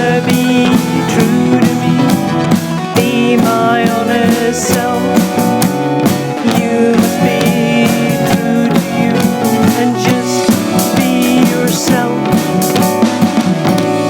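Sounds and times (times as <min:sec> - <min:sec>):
bass guitar: 0:00.0 - 0:14.0
drum kit beat: 0:00.0 - 0:14.0
guitar: 0:00.0 - 0:14.0.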